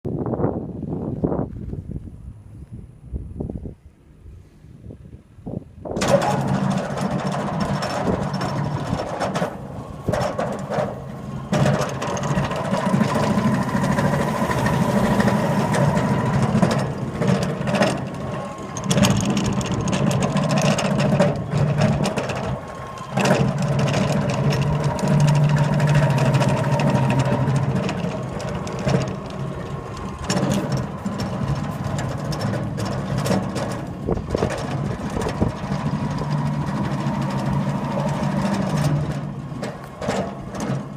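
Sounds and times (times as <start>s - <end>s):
pumpjack low hum: 5.8s - 40.9s
thin steady whine: 6.0s - 40.9s.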